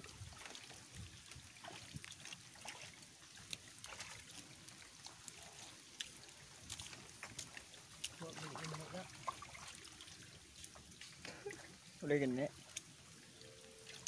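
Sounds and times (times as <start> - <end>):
wading through muddy water: 0.0 - 14.0.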